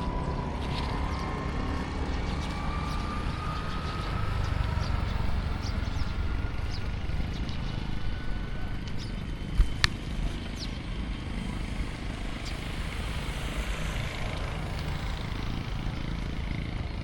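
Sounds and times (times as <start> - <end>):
engine whine rising in pitch: 0.0 - 17.0
rumble of passing vehicles: 0.0 - 17.0.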